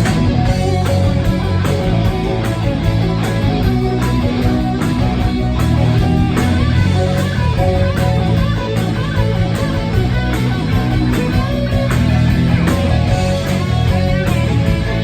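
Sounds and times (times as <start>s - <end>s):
electric guitars: 0.0s - 15.0s
steady drum beat: 0.0s - 15.0s.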